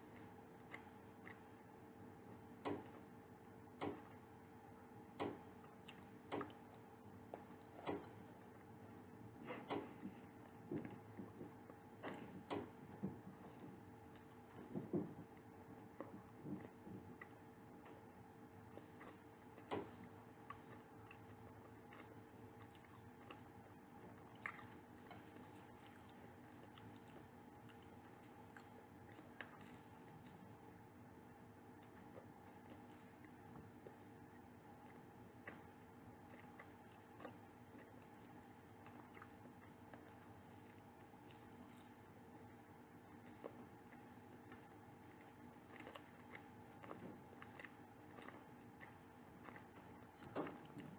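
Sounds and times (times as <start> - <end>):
low electrical hum: 0.0 - 50.9
pastry crunching while chewing: 0.0 - 50.9.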